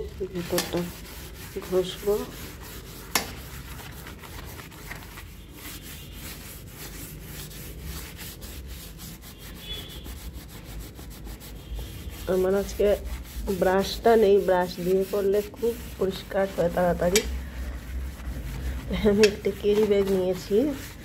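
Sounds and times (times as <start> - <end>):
plastic bag scrubbing ceramic basin: 0.0 - 21.0.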